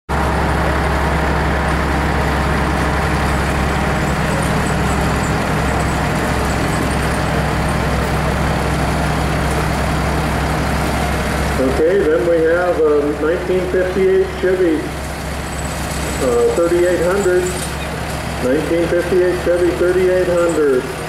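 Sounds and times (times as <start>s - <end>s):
diesel truck engine running: 0.1s - 21.0s.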